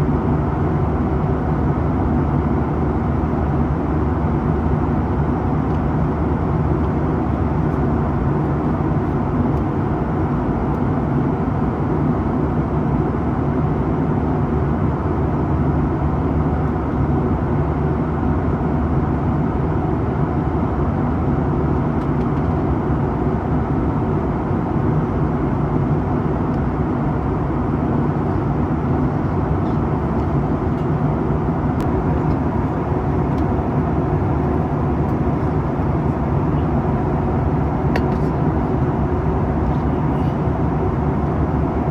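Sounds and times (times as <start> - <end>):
jet engine drone: 0.0 - 41.9.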